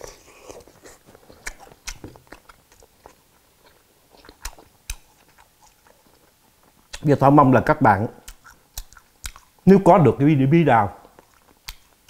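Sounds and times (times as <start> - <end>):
person chewing wetly: 0.0 - 7.2, 8.2 - 9.7, 11.0 - 12.0.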